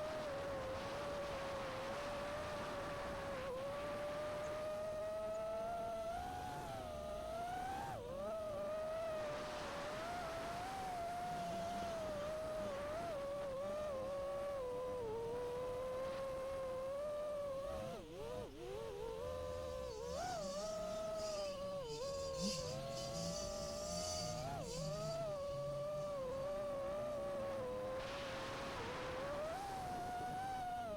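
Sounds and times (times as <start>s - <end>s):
drone motors whining: 1.8s - 30.9s.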